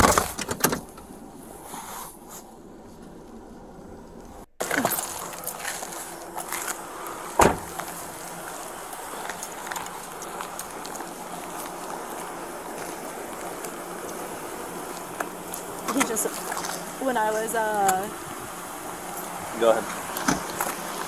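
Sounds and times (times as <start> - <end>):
footsteps along roadside: 0.8 - 21.0
steady background hum: 0.9 - 21.0.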